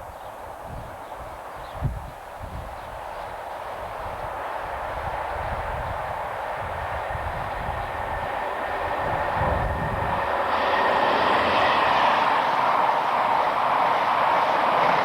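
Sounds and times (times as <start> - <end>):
fast train passing: 0.0 - 15.0
wind buffeting microphone: 0.1 - 15.0.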